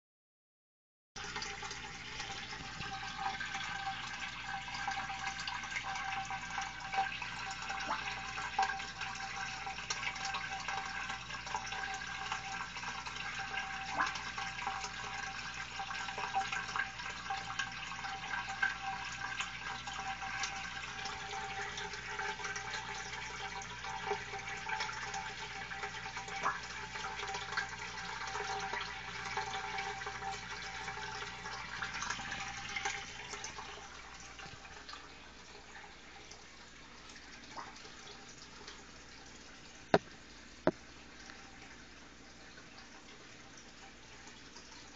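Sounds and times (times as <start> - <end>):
aquarium filter water trickling: 1.2 - 44.9.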